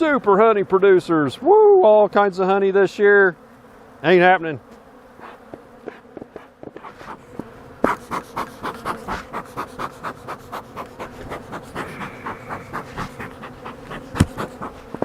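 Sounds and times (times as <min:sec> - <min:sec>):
bees buzzing: 0:00.0 - 0:15.0
bee smoker bellows puffing: 0:02.9 - 0:15.0.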